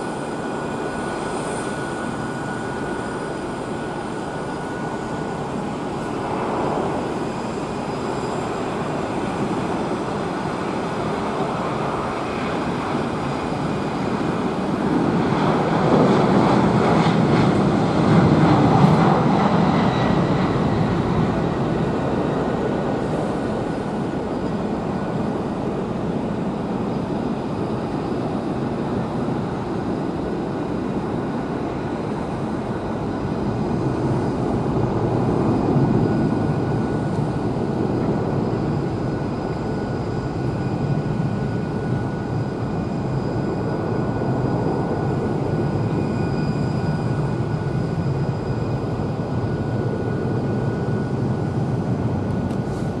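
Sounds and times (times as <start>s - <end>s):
jet engines at takeoff thrust: 0.0s - 53.0s.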